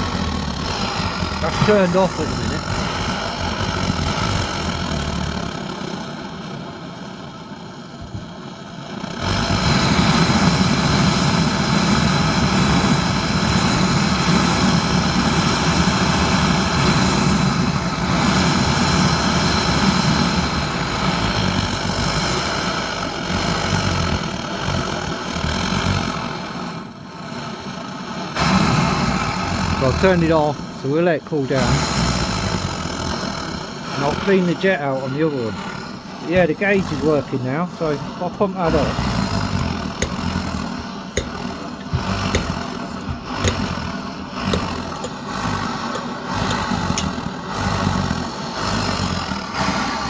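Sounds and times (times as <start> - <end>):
pressure burner flame rushing: 0.0 - 50.0.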